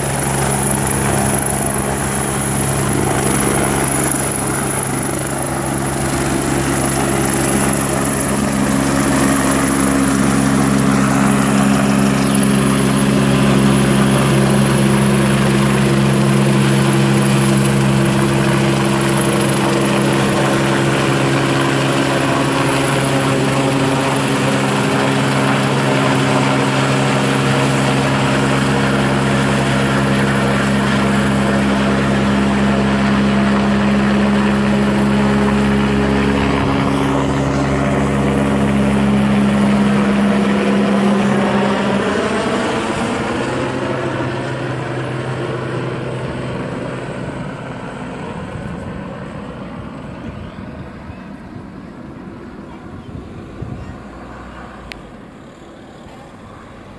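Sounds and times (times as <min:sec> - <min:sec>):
helicopter rotor and engine: 0:00.0 - 0:56.9
high turbine whine: 0:00.0 - 0:56.9.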